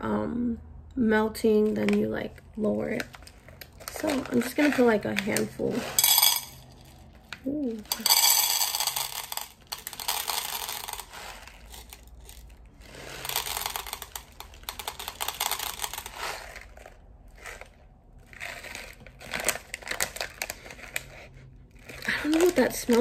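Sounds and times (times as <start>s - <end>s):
plastic bag crinkling: 2.9s - 23.0s.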